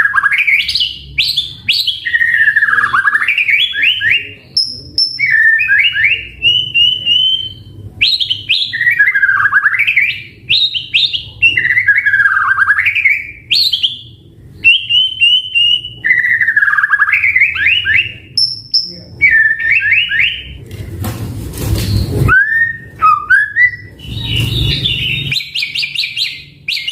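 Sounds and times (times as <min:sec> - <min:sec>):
bird singing whistled phrases: 0:00.0 - 0:20.6, 0:21.9 - 0:26.9.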